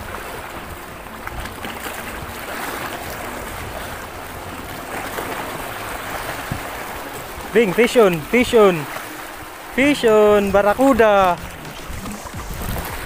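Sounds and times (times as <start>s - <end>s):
water splashing against boat: 0.0s - 13.0s
wind rumble: 0.0s - 13.0s.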